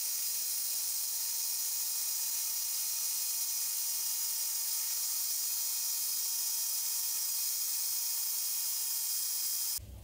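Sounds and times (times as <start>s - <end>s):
high-pitched whine and hiss: 0.0s - 9.8s
milling machine cutting metal: 0.0s - 9.8s.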